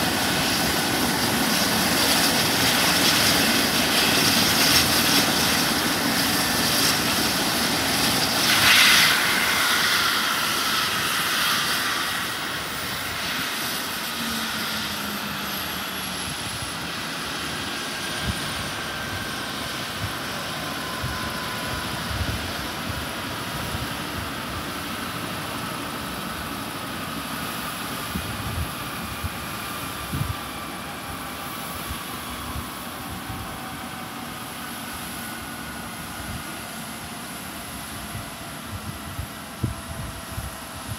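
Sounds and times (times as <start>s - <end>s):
helicopter rotor running down: 0.0s - 40.9s
helicopter turbine whine: 0.0s - 40.9s.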